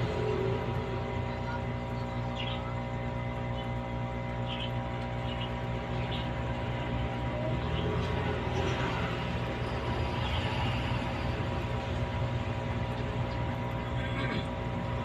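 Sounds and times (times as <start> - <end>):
mechanical hum with low drone: 0.0 - 15.0.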